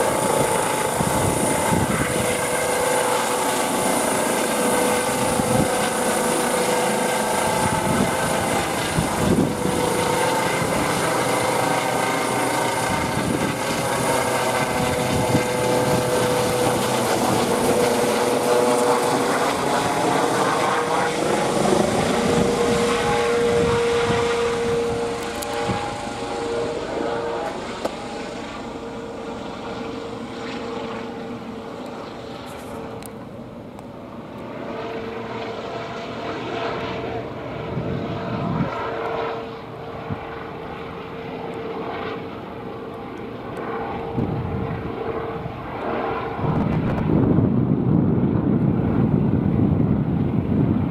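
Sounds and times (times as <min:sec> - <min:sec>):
helicopter turbine whine and rotors: 0:00.0 - 0:50.9.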